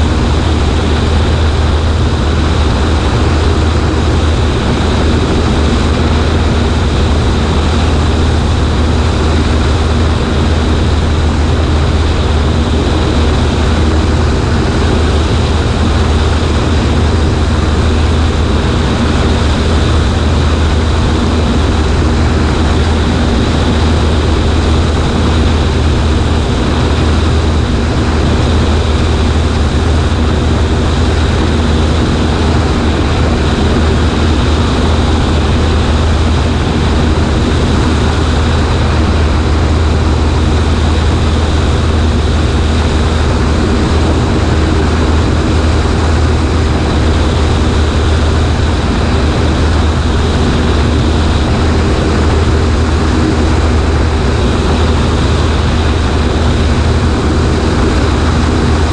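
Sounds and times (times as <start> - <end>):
air rushing: 0.0 - 58.9
airplane engine and propeller drone: 0.0 - 58.9.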